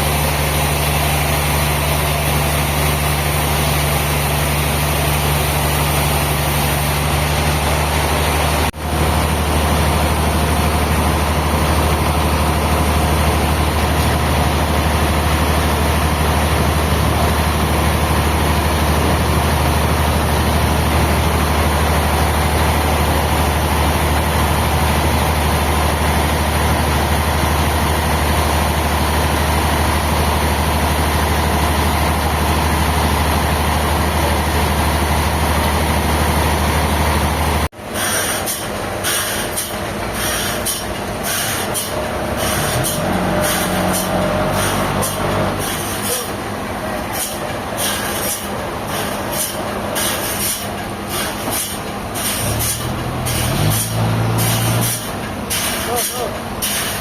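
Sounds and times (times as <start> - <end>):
heavy engine running: 0.0 - 57.0.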